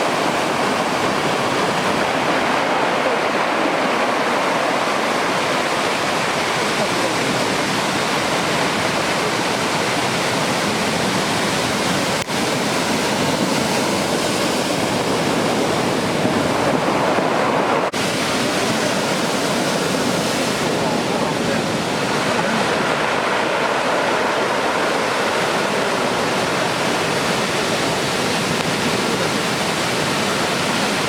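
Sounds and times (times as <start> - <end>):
surf waves breaking: 0.0 - 31.0.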